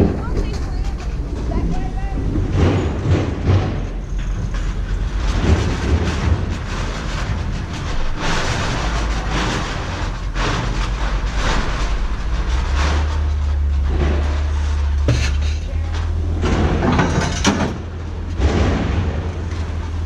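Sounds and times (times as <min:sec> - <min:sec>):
rattling rushing noise: 0:00.0 - 0:20.0
vehicle engine rumbling: 0:00.0 - 0:20.0.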